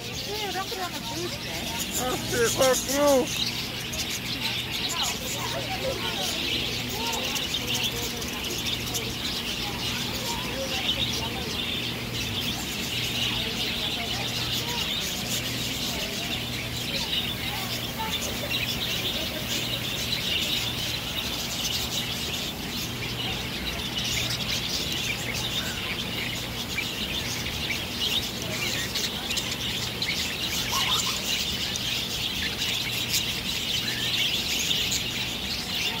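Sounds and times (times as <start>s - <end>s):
budgerigars chattering and chirping: 0.0s - 36.0s.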